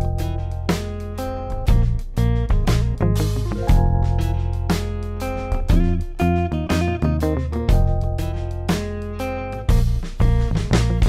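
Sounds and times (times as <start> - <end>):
plucked notes: 0.0 - 11.0
steady bass: 0.0 - 11.0.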